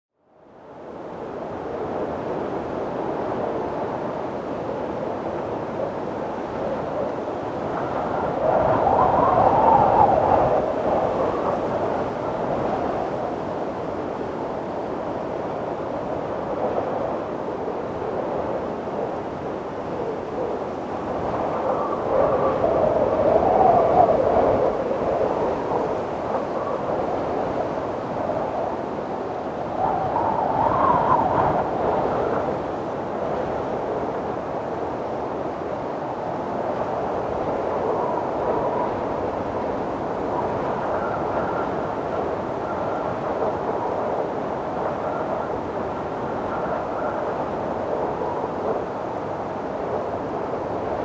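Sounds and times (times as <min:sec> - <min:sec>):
wind blowing: 0:00.9 - 0:51.0.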